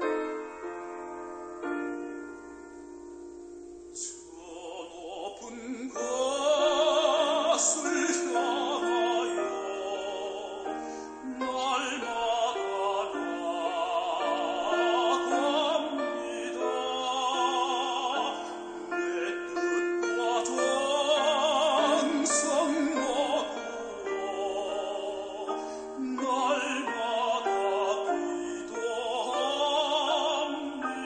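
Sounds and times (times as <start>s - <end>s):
operatic solo singer: 3.9s - 31.0s.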